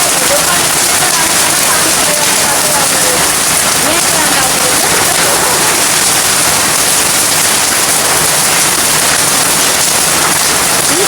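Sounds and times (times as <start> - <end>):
heavy rain pelting down: 0.0 - 11.0.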